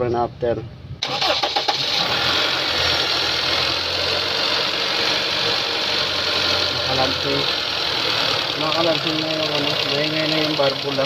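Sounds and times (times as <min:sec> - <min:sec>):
car engine idling: 0:01.0 - 0:11.0.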